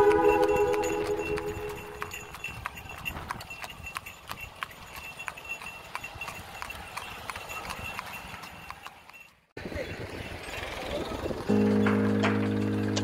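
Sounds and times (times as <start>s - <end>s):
horse hooves clip-clopping on road: 0.0s - 13.0s.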